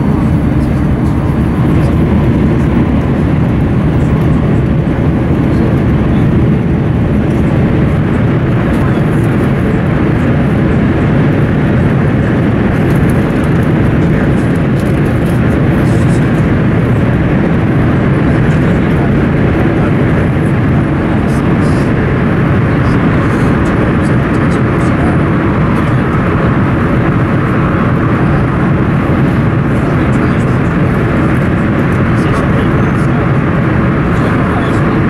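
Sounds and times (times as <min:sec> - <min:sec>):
train rumbling through tunnel: 0:00.0 - 0:35.0.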